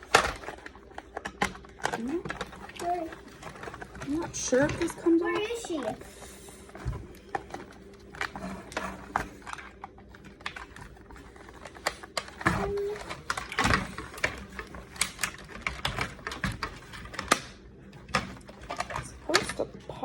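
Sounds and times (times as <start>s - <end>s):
plastic toy parts clicking: 0.0s - 6.0s, 7.3s - 19.8s.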